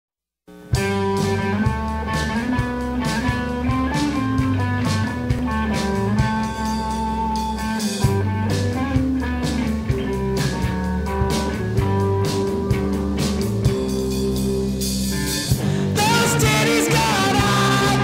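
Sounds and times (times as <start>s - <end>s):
bass guitar: 0.5s - 18.0s
drum kit: 0.5s - 18.0s
electric guitars: 0.6s - 18.0s.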